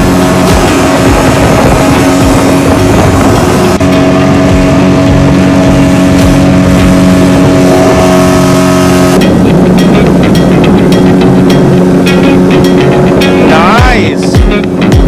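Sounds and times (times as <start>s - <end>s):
rushing water noise: 0.0s - 15.0s
speedboat engine running: 0.0s - 15.0s.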